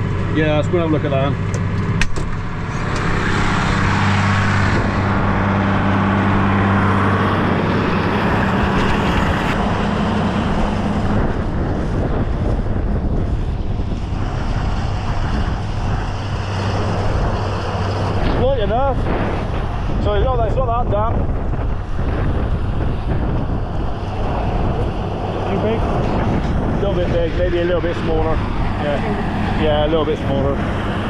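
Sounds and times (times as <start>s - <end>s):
tractor engine droning: 0.0s - 31.0s
higher-pitched baler noise: 2.4s - 31.0s.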